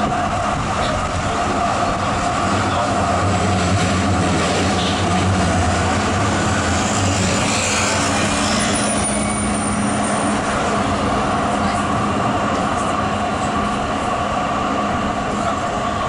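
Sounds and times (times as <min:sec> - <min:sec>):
tram wheels rolling on rails: 0:00.0 - 0:16.0.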